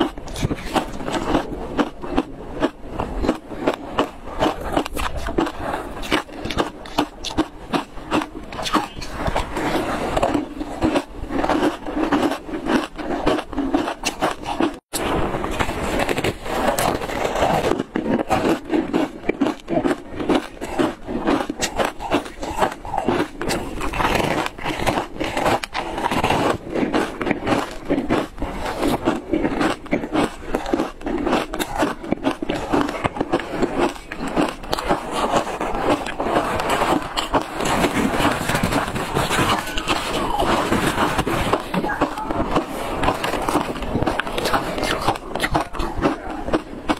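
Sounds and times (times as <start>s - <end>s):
chewing and crunching ice: 0.0s - 46.9s.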